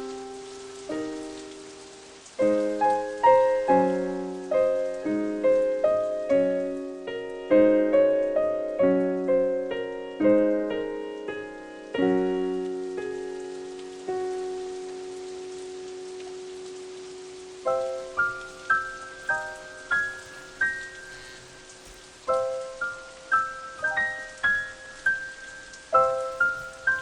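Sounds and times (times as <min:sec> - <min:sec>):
slow solo piano: 0:00.0 - 0:27.0.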